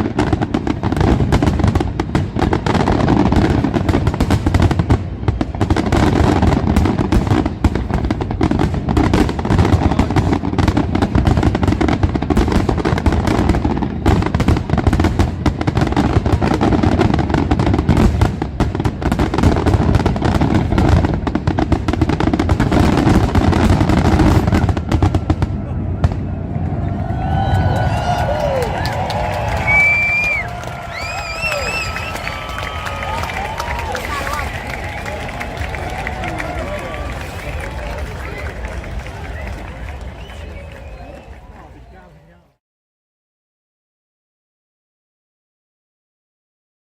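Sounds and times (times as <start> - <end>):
fireworks bangs and crackling: 0.0 - 42.4.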